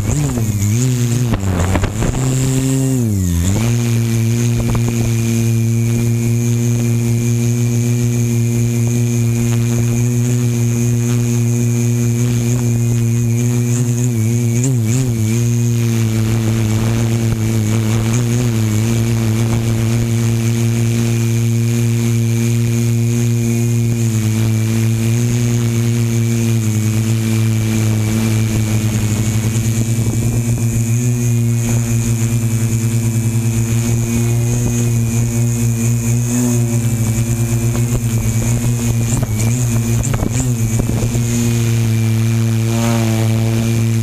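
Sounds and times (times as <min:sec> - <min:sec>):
drone propellers buzzing: 0:00.0 - 0:44.0.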